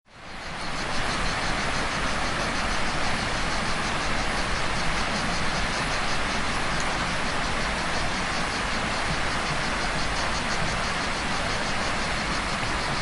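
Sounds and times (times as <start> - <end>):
cicadas buzzing: 0.1 - 13.0
river water rushing: 0.1 - 13.0.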